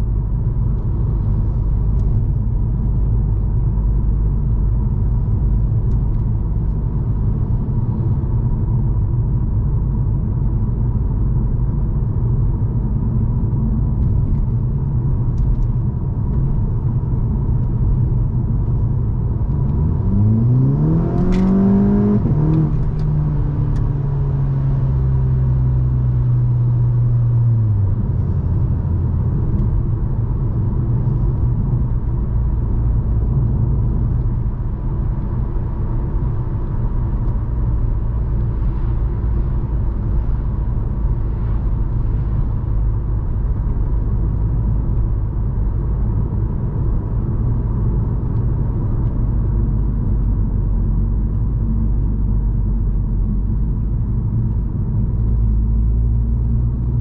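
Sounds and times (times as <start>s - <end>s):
car engine drone: 0.0s - 57.0s
road rumble: 0.0s - 57.0s.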